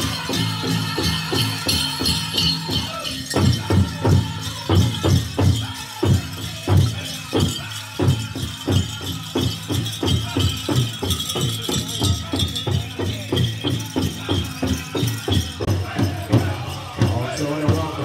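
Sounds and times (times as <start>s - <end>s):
high-pitched singing: 0.0s - 18.0s
jingling bells: 0.0s - 18.0s
steady drumbeat: 0.0s - 18.0s.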